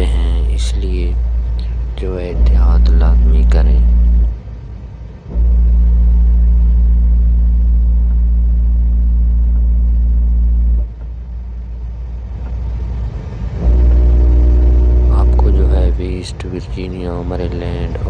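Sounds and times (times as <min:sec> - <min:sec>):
vehicle engine and road drone: 0:00.0 - 0:18.0.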